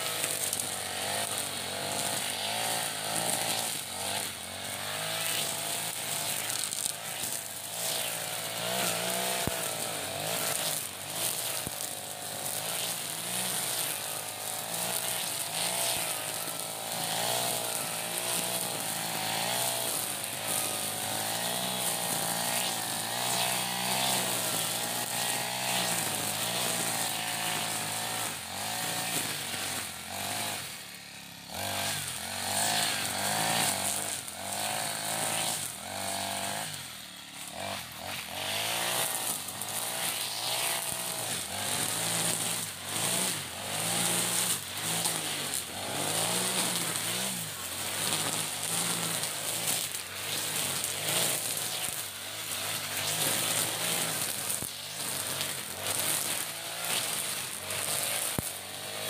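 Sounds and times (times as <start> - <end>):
brush cutter engine revving: 0.0 - 59.0
trimmer line cutting grass: 0.0 - 59.0.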